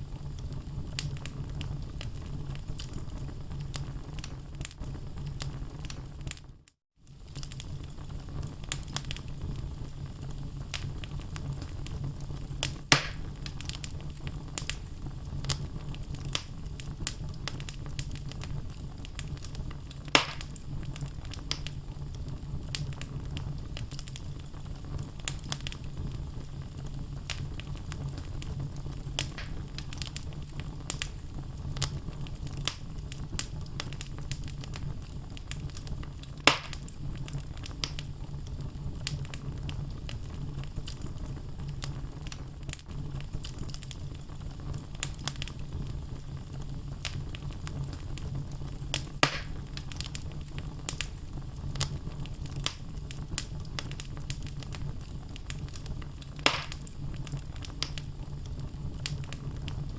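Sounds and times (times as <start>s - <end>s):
loud fire pops: 0.0s - 6.4s, 7.0s - 59.9s
fire crackling: 0.0s - 59.9s
low rumble of flame: 0.0s - 59.9s.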